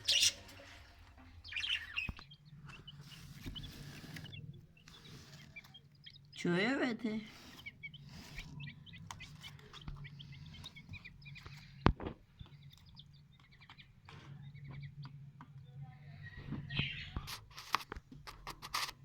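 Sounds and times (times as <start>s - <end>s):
small birds chirping: 0.0s - 18.6s.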